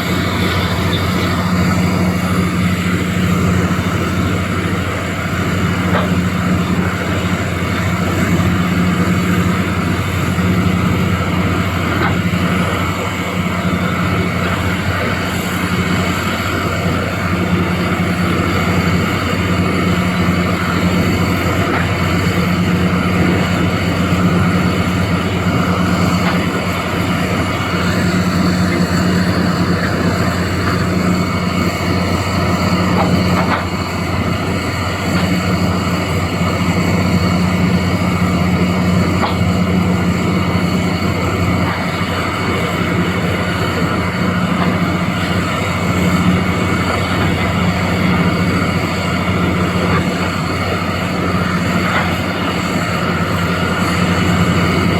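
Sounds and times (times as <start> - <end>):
excavator diesel engine droning: 0.0 - 54.9.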